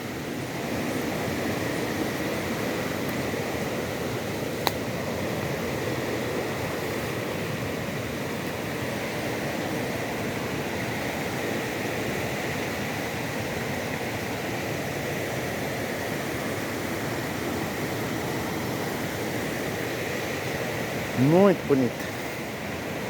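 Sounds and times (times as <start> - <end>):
waterfall rushing over rocks: 0.0 - 23.0.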